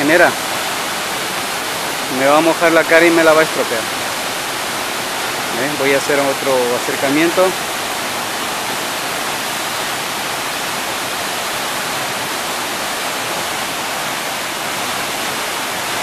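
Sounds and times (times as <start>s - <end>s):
waterfall rushing and splashing: 0.0s - 16.0s.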